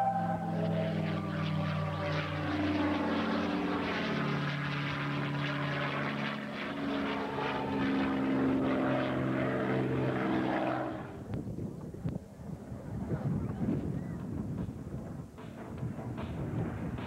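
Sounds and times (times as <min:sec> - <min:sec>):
propeller plane engine overhead: 0:00.0 - 0:17.0.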